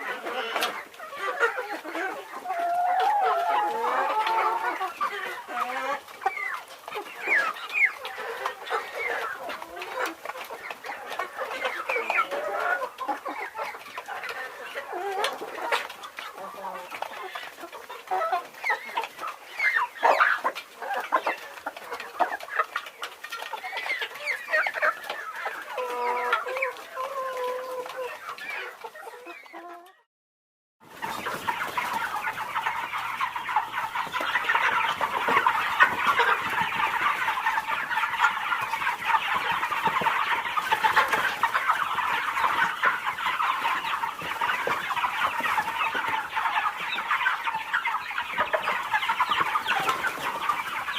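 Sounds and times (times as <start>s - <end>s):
chickens clucking: 0.0s - 30.1s, 30.8s - 50.9s
chorus of overlapping clucks: 0.0s - 30.1s, 30.8s - 50.9s.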